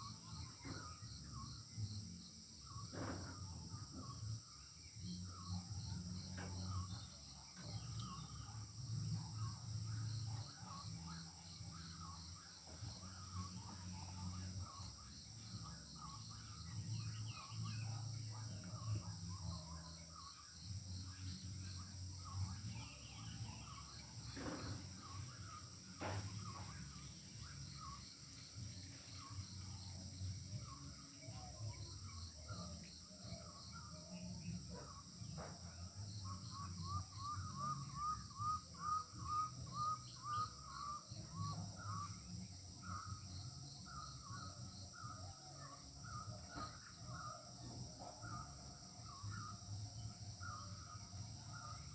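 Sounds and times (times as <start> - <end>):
crickets trilling: 0.0 - 51.9
small birds chirping: 0.0 - 51.9.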